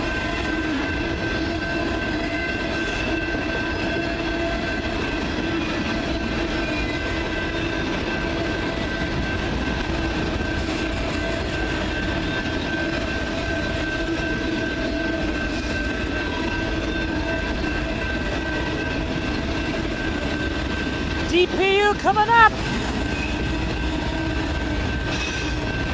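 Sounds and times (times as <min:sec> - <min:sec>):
steady ringing tones: 0:00.0 - 0:25.9
wheels rumbling on rail: 0:00.0 - 0:25.9.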